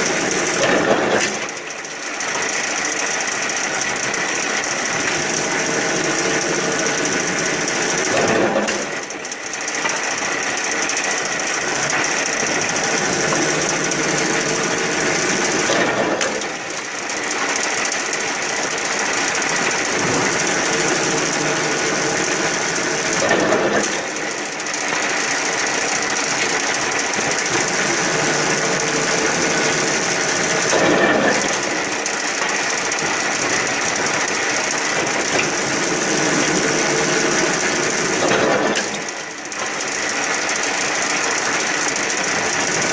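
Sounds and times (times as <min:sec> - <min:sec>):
veneer peeling machine rattling: 0:00.0 - 0:42.9.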